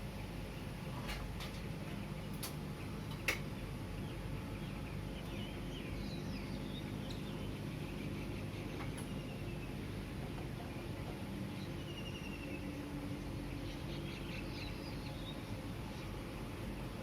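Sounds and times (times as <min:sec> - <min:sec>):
city traffic rumble: 0:00.0 - 0:17.0
small birds chirping: 0:02.0 - 0:17.0.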